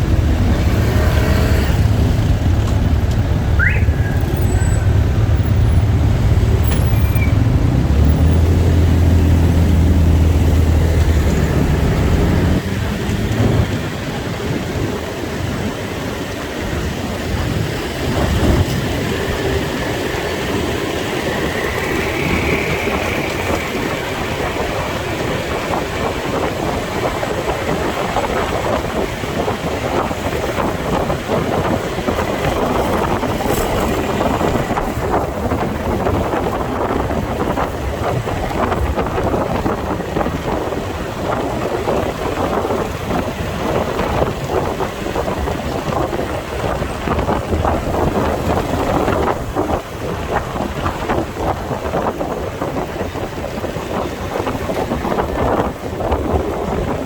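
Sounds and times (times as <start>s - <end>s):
motorcycle engine: 0.0s - 15.4s, 16.9s - 51.4s
street traffic: 0.0s - 57.0s
wind rushing over microphone: 0.0s - 57.0s.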